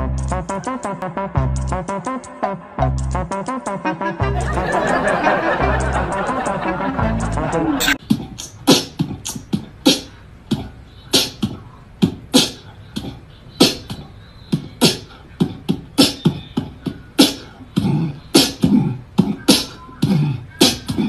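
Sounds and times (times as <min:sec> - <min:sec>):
beatbox rhythm: 0:00.0 - 0:21.0.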